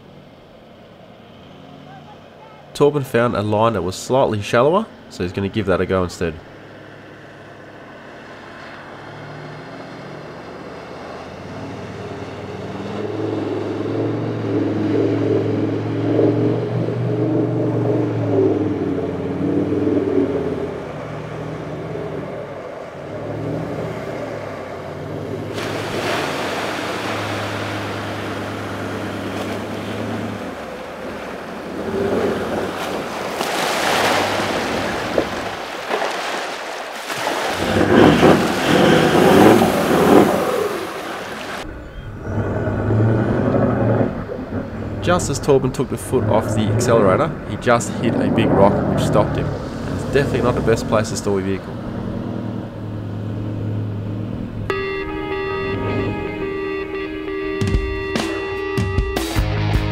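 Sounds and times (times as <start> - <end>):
truck engine revving: 0.0 - 36.4, 37.0 - 59.9
water splashing and rushing: 0.0 - 58.7.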